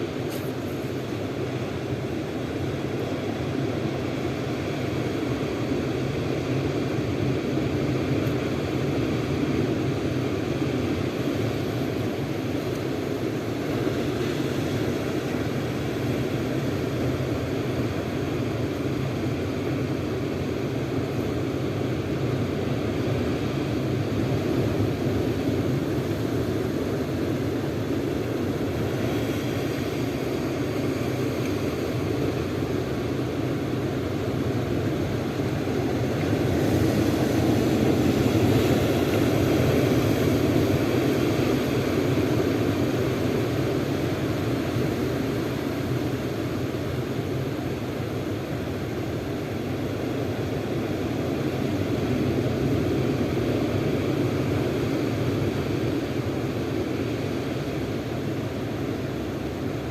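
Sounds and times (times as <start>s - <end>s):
steady engine drone: 0.0s - 59.9s.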